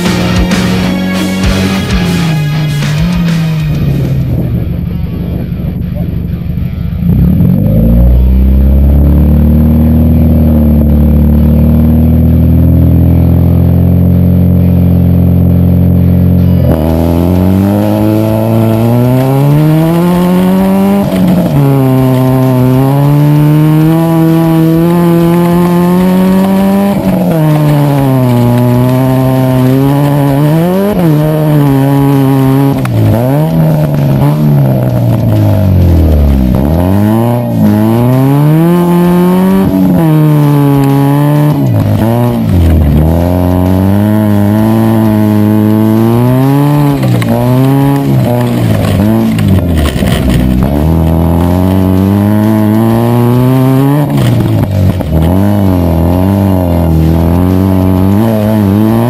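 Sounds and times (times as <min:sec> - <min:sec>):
car engine at steady revs: 0:00.0 - 0:59.0
car engine revving: 0:00.0 - 0:59.0.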